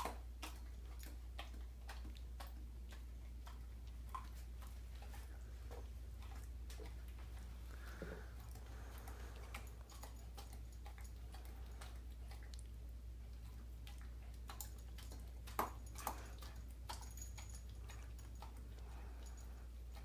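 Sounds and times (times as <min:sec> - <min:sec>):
dog smacking its mouth: 0:00.0 - 0:18.9.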